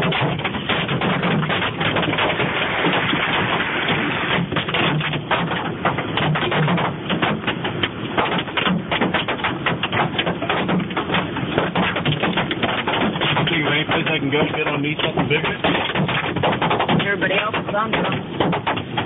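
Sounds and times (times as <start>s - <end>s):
hailstones clattering: 0.0s - 19.0s.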